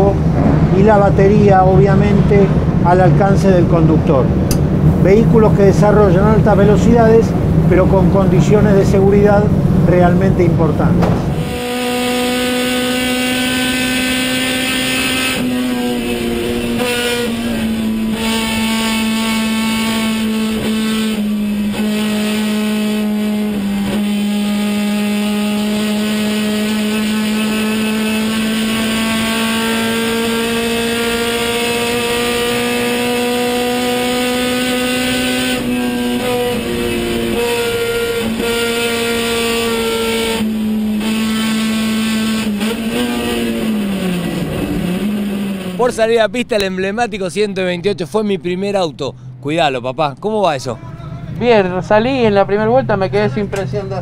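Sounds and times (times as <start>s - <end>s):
race car engine with gear changes: 0.0s - 54.0s.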